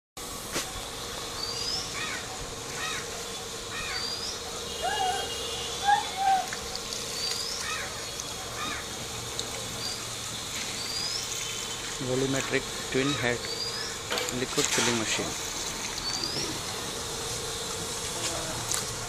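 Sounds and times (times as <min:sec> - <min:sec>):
steady hum: 0:00.2 - 0:19.0
birds chirping: 0:00.7 - 0:17.8.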